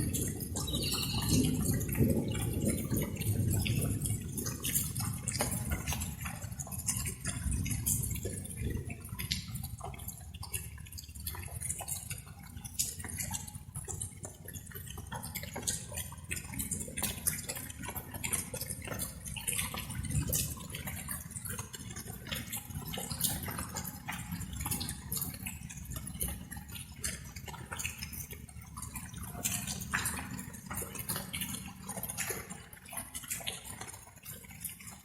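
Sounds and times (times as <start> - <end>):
water drops dripping and plinking: 0.0 - 35.0.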